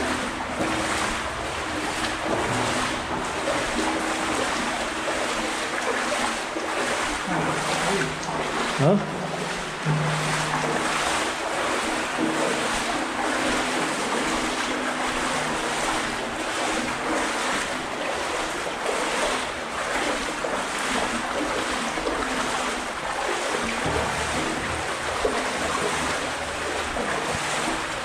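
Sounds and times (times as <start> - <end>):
water rushing in tunnel: 0.0 - 28.0.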